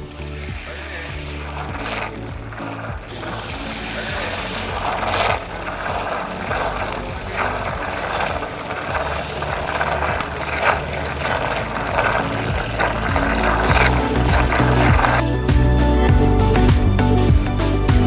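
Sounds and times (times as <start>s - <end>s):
electric churning machine running: 0.0s - 15.2s.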